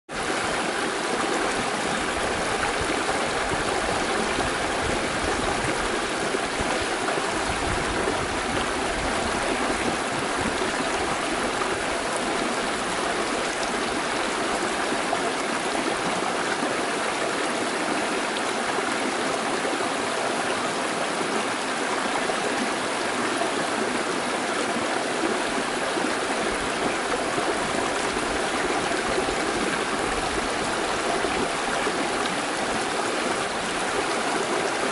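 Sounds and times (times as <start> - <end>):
creek water rushing over rocks: 0.1 - 34.9.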